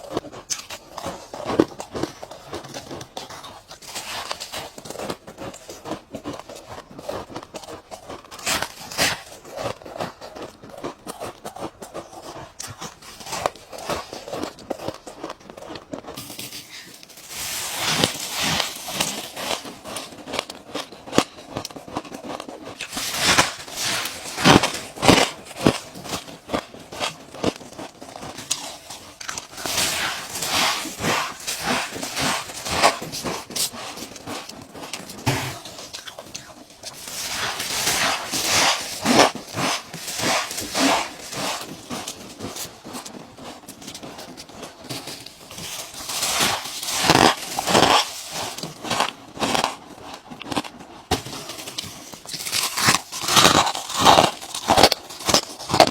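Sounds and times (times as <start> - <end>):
ice crunched between teeth: 0.0 - 55.9.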